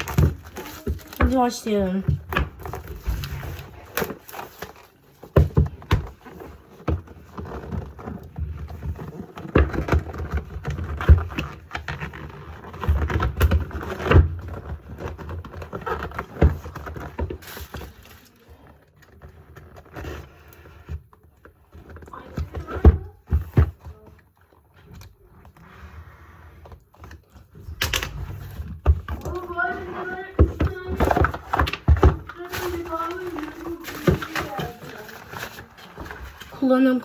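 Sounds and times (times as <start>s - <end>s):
box packaging handled by hand: 0.0s - 37.0s.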